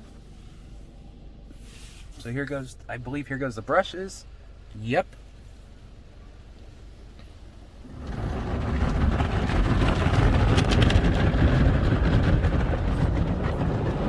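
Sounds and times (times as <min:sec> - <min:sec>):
car wash brushes: 0:00.0 - 0:02.7, 0:05.3 - 0:14.0.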